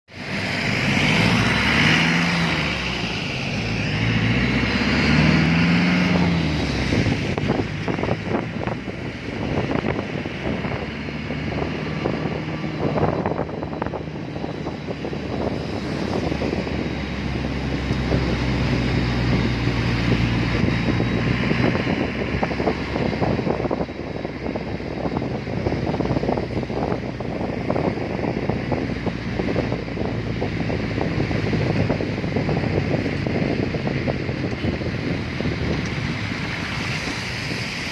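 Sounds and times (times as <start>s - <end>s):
road and wind noise: 0.1s - 37.9s
vehicle engine running: 0.1s - 37.9s.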